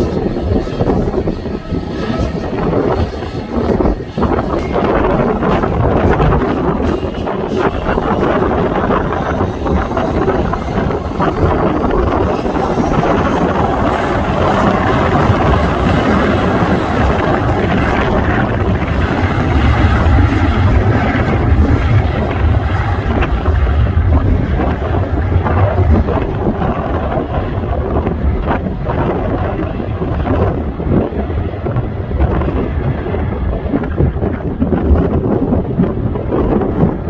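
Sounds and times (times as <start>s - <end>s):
jet engine noise: 0.0s - 37.0s
wind buffeting microphone: 0.0s - 37.0s.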